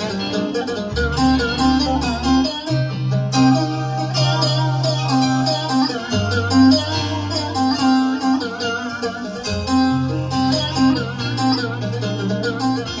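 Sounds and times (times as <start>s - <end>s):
held bass notes: 0.0s - 13.0s
plucked-string lead melody: 0.0s - 13.0s.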